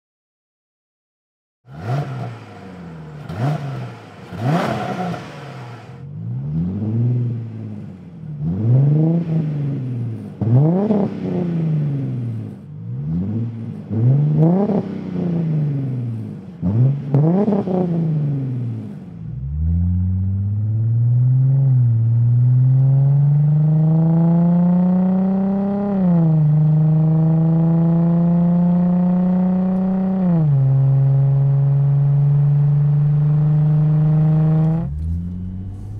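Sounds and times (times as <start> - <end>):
car accelerating and shifting: 1.7 - 35.9
car engine revving: 1.7 - 35.9.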